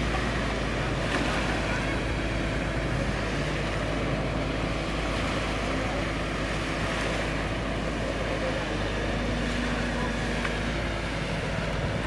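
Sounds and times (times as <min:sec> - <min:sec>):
dredger engine running: 0:00.0 - 0:12.0
water washing: 0:00.0 - 0:12.0
wind: 0:00.0 - 0:12.0.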